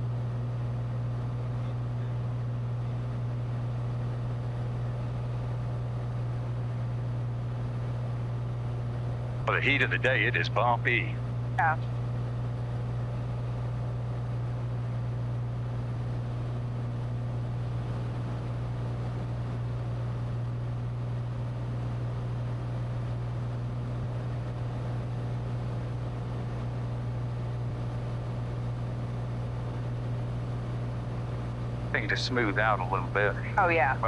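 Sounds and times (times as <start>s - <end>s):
airplane engine and propeller droning: 0.0s - 34.0s.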